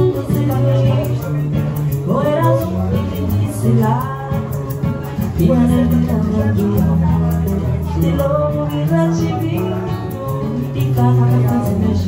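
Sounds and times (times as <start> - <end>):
acoustic guitar: 0.0 - 12.0
woman singing into a microphone: 0.0 - 12.0.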